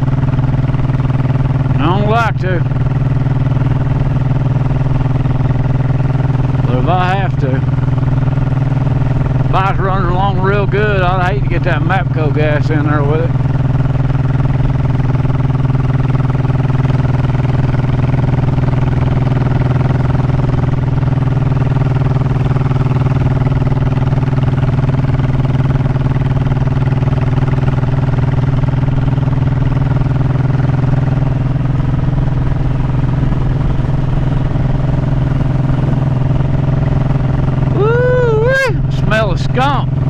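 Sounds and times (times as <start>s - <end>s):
motorcycle engine running steadily: 0.0s - 40.0s.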